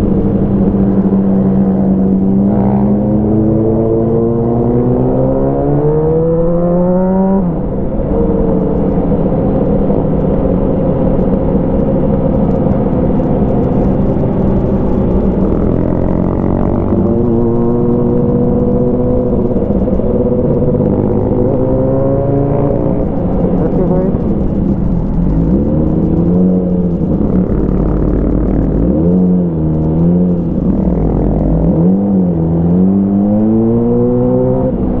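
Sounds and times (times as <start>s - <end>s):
motorcycle engine revving under load: 0.0s - 7.5s, 12.3s - 35.0s.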